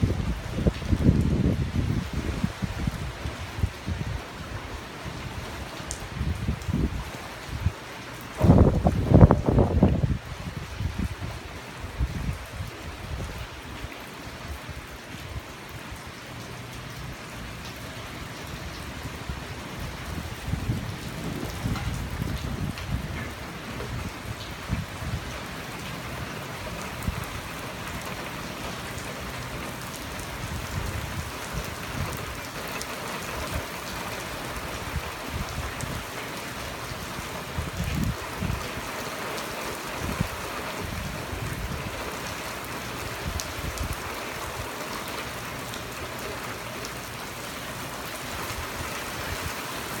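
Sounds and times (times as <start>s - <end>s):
heavy rain on water: 0.0s - 50.0s.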